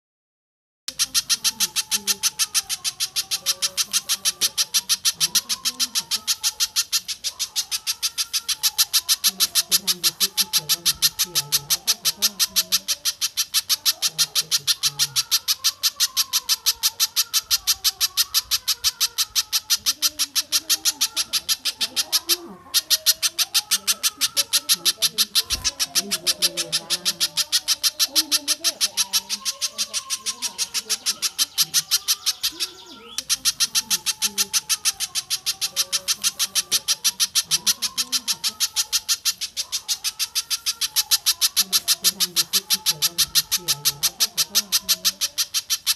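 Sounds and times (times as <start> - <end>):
bird call with sharp repeated notes: 0.9 - 45.9.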